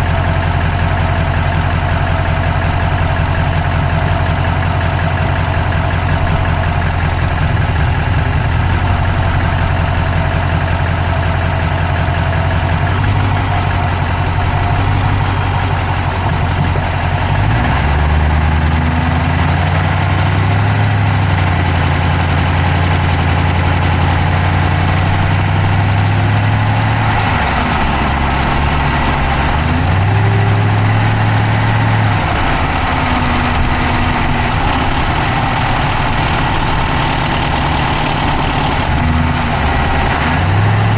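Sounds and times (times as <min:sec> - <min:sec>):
car engine idling: 0:00.0 - 0:40.9
fast engine clicking: 0:00.0 - 0:40.9.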